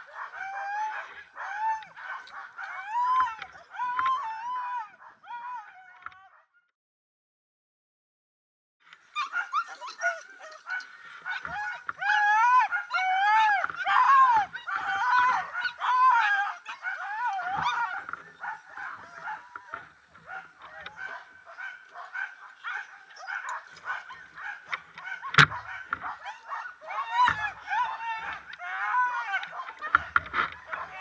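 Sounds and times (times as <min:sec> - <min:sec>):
dogs yelping and whining: 0:00.0 - 0:06.0, 0:09.0 - 0:31.0.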